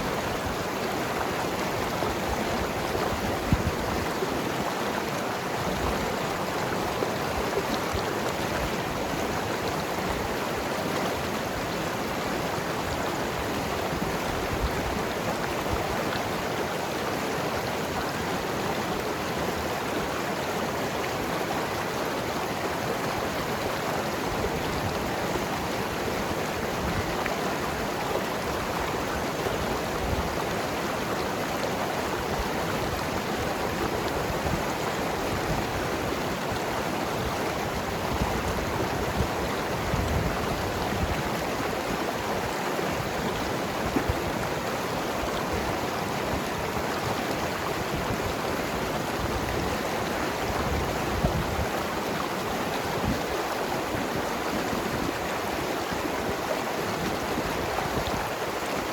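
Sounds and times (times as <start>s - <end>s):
river flowing over rocks: 0.0s - 58.9s.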